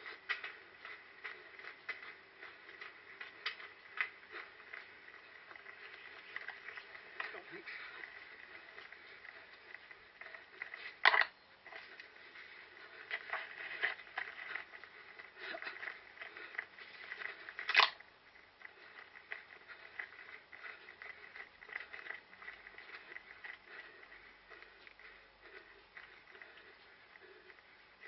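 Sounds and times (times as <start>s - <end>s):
muffled rustling and scraping: 0.0s - 28.0s.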